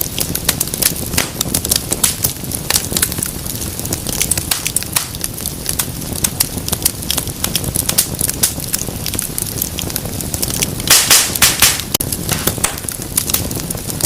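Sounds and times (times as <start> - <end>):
low rumble of flame: 0.0 - 14.0
wood fire crackling: 0.0 - 14.0.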